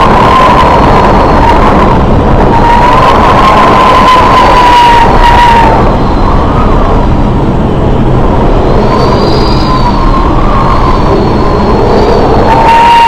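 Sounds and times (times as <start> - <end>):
faint wavering whistle: 0.0 - 7.0, 8.8 - 13.0
storm wind roaring: 0.0 - 13.0
wind buffeting microphone: 0.0 - 13.0.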